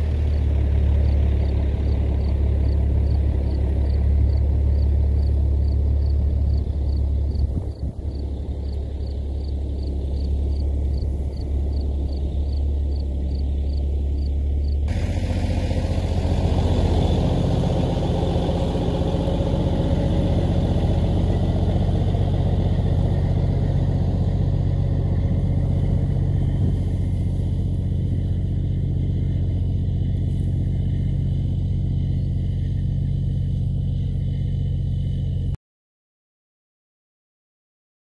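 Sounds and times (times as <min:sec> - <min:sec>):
diesel truck engine running: 0:00.0 - 0:35.6.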